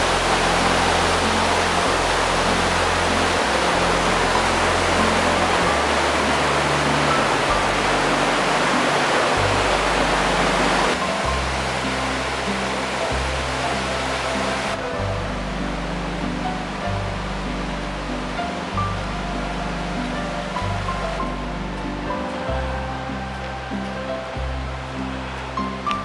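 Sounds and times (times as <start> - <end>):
background music with low notes: 0.0 - 26.0
rushing river water: 0.0 - 26.0.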